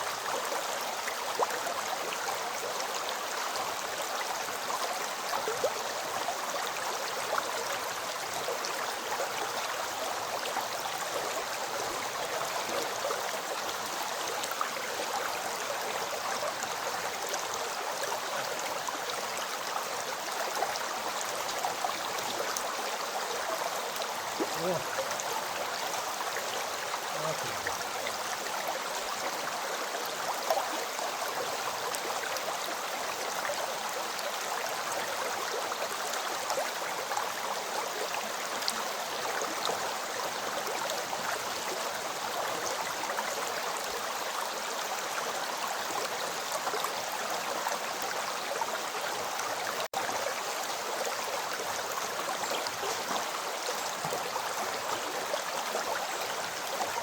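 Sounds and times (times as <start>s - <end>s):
river stream rushing: 0.0s - 57.0s.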